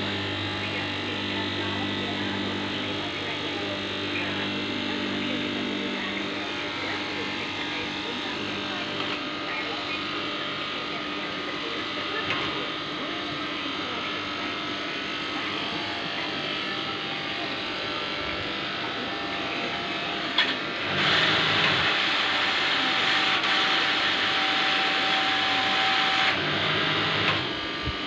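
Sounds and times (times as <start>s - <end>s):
cloth cutting machine running: 0.0s - 28.0s.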